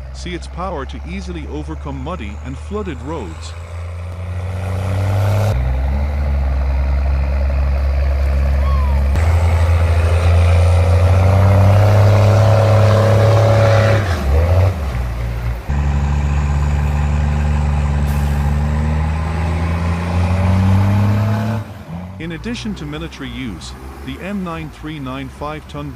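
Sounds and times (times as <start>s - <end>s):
truck diesel engine running: 0.0s - 25.9s.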